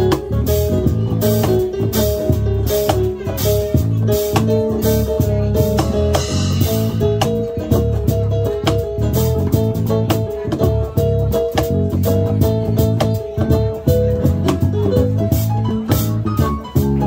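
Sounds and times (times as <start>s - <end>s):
cajon and cymbal percussion: 0.0s - 17.0s
electric bass: 0.0s - 17.0s
plucked guitar: 0.0s - 17.0s.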